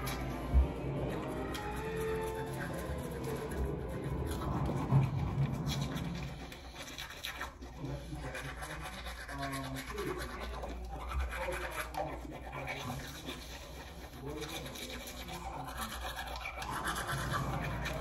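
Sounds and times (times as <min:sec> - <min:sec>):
toothbrush scrubbing teeth: 0:00.0 - 0:18.0.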